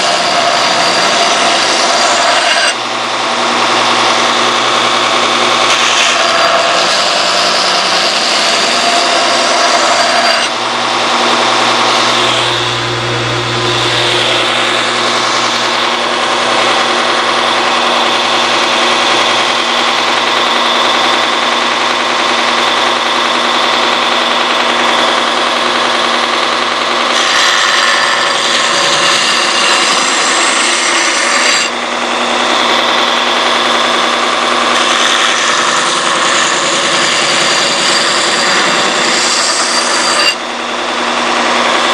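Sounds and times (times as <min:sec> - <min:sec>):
belt grinder grinding steel: 0:00.0 - 0:41.9
motor hum: 0:00.0 - 0:41.9.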